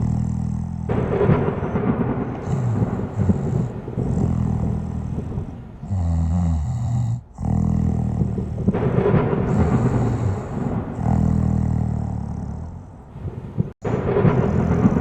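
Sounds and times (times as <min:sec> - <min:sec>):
person snoring: 0:00.0 - 0:13.1, 0:14.2 - 0:15.0.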